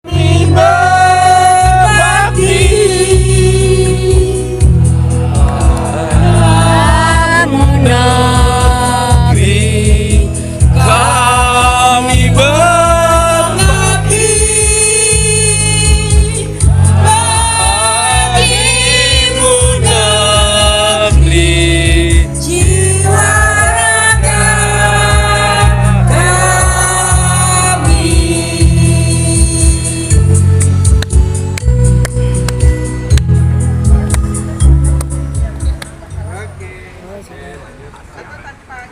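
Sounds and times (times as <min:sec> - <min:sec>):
person singing slow melody: 0:00.0 - 0:35.5
backing music with bass line: 0:00.0 - 0:37.1.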